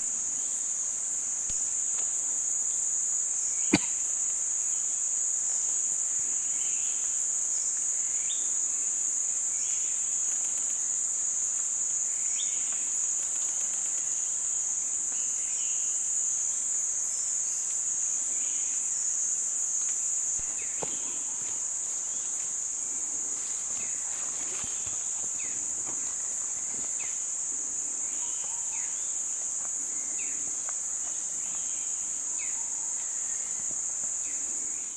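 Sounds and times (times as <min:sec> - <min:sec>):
insect chorus drone: 0:00.0 - 0:34.9.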